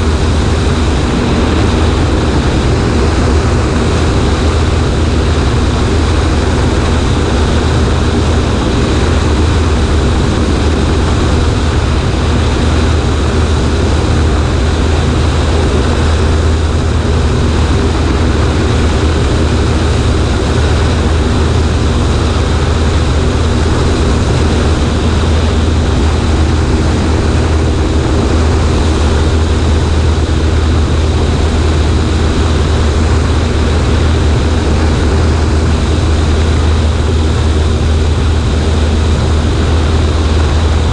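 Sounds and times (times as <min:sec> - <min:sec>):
airplane engine droning: 0:00.0 - 0:40.9
rush of air: 0:00.0 - 0:40.9.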